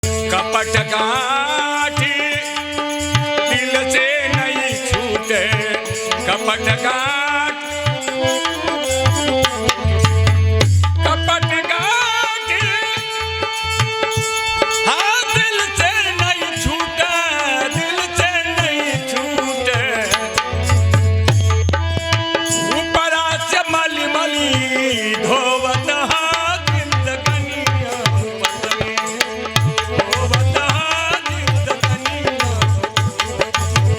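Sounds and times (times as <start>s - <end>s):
tabla rhythm: 0.0s - 33.9s.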